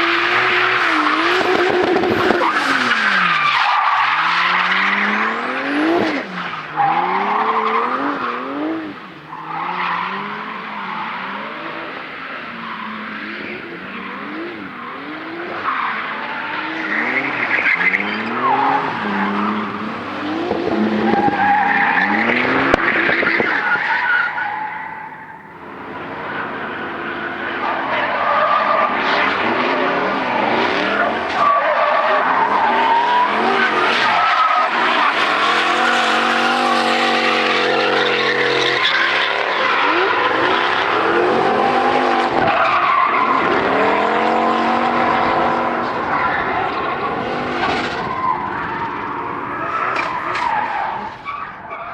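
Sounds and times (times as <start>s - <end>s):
car engine revving: 0.0s - 51.5s.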